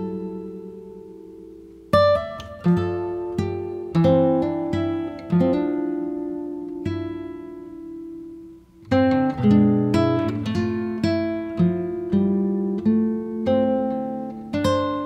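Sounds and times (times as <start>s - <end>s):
acoustic guitar plucking: 0.0s - 15.0s.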